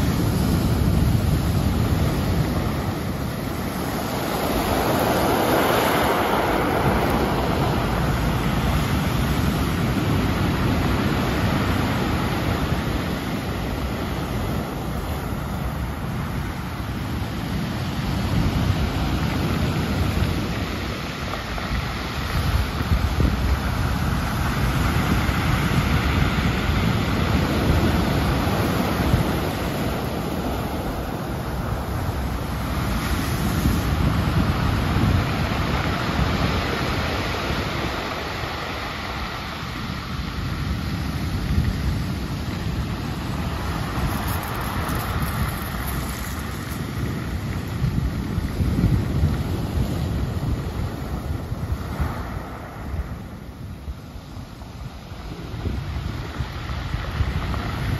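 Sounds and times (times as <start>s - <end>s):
ocean surf breaking on rocks: 0.0s - 57.9s.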